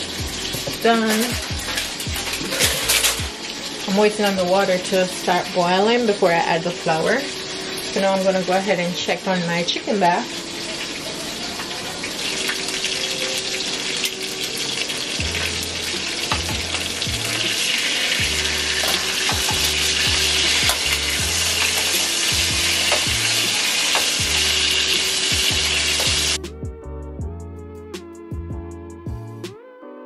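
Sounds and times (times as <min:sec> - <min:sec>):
chicken sizzling in a skillet: 0:00.0 - 0:26.4.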